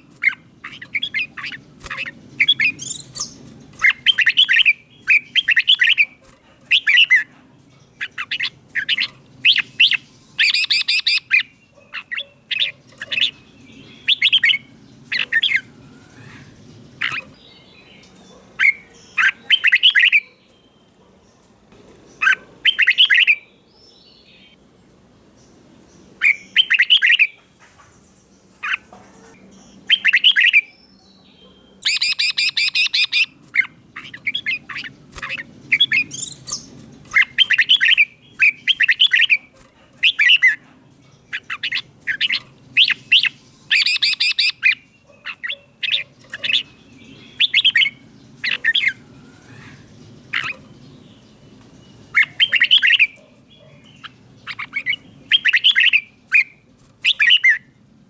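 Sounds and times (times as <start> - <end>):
bird singing warbling phrases: 0.0 - 24.7, 25.3 - 57.8.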